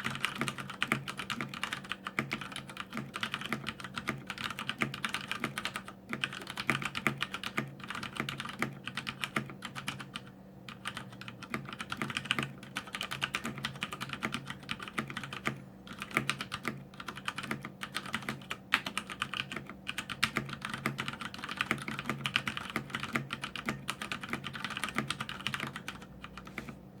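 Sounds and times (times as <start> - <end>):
mechanical keyboard typing: 0.0 - 26.8
faint steady hum: 0.0 - 27.0.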